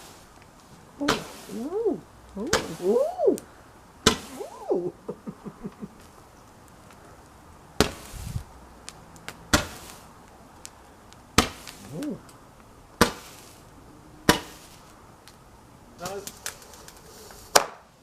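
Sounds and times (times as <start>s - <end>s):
faint fireworks crackles: 0.0s - 18.0s
fireworks banging: 1.0s - 15.4s, 16.0s - 17.9s.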